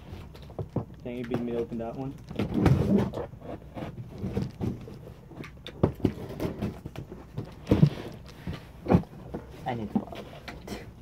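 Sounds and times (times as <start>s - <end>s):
cardboard boxes rustling and knocking: 0.0s - 11.0s.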